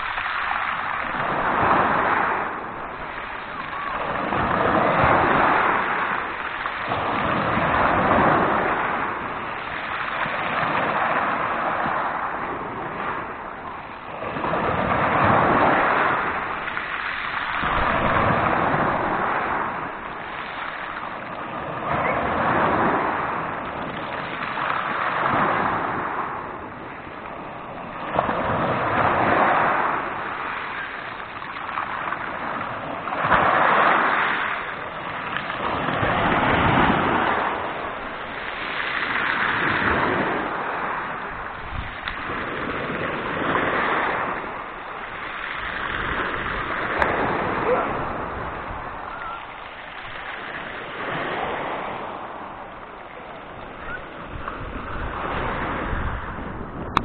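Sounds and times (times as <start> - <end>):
sea waves breaking on pebbles: 0.0 - 57.0.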